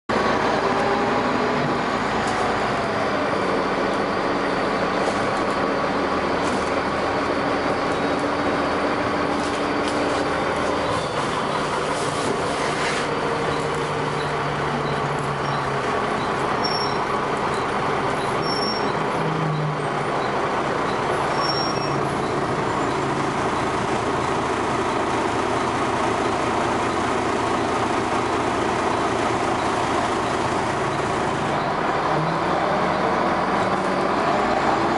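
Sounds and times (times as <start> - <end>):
bus engine droning: 0.1 - 34.9.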